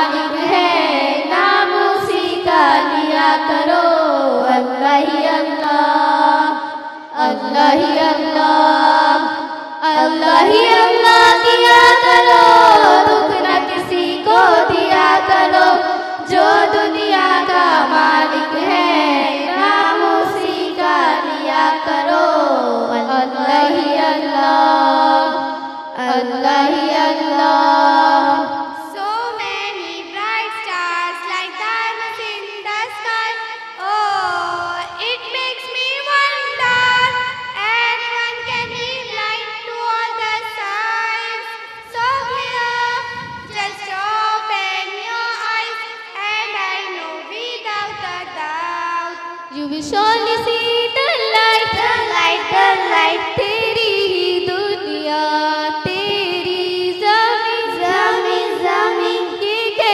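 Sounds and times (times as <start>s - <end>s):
children singing: 0.0s - 59.9s.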